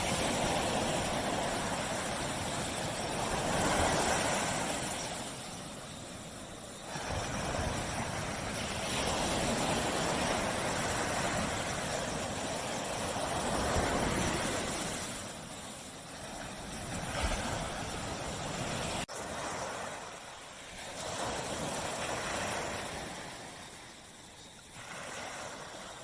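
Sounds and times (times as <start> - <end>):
surf washing onto beach: 0.0 - 26.0.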